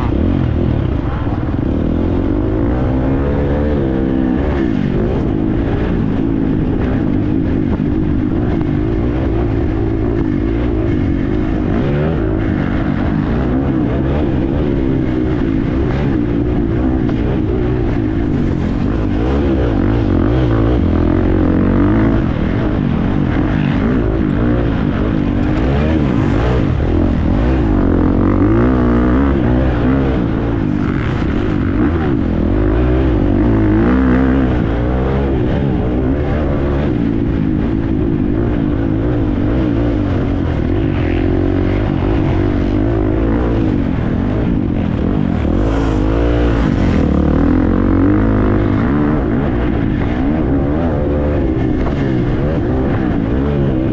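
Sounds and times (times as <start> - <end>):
motocross engine revving: 0.0 - 53.9.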